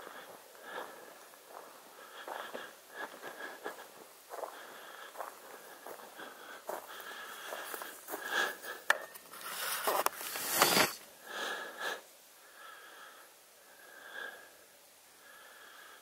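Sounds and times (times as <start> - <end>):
person breathing hard: 0.0 - 9.2, 10.7 - 16.0.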